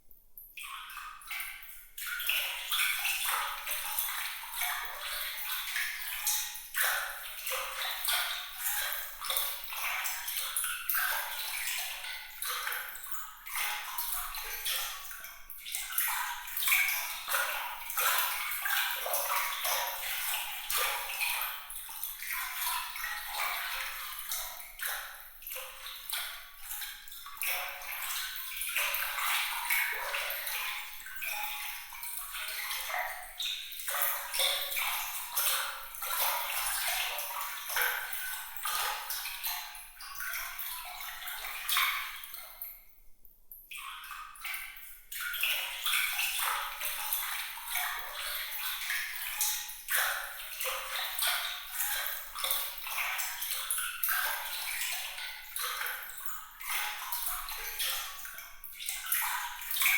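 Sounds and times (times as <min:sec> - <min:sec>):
trickle of running water: 0:00.0 - 0:59.9.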